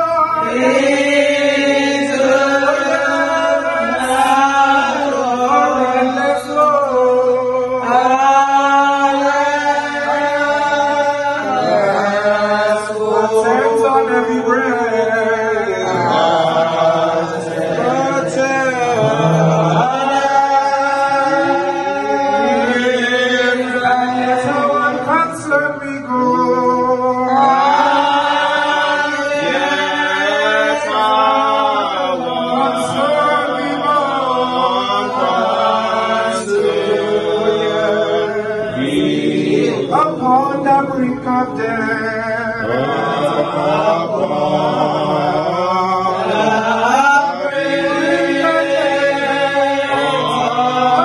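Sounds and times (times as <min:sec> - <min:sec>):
man singing chant into microphone: 0:00.0 - 0:51.0.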